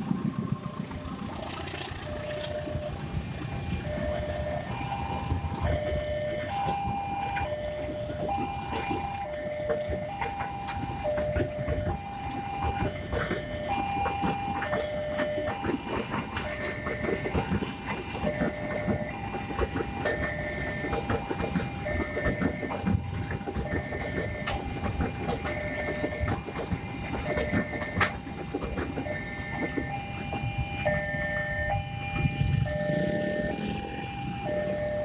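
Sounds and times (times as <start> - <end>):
train wheels clacking on rail joints: 0.0 - 35.0
level crossing two-tone alarm: 2.0 - 35.0.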